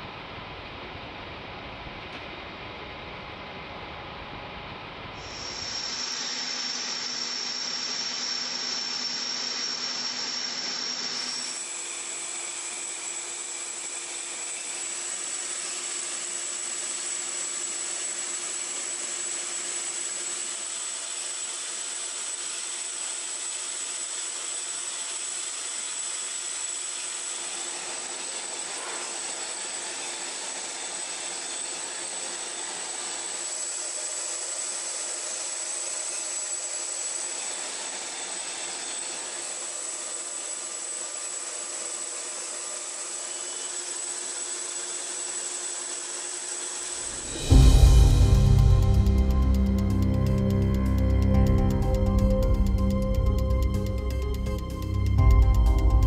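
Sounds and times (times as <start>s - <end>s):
turbine machinery whine: 0.0s - 24.4s, 25.1s - 56.0s.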